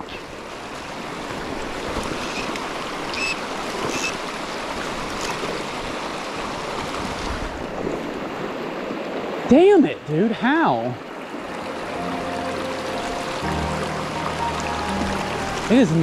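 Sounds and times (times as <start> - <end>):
river rushing over rocks: 0.3 - 16.0.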